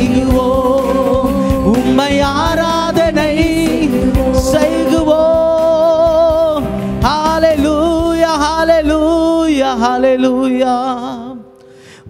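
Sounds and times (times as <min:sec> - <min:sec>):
sustained accompaniment: 0:00.0 - 0:10.6.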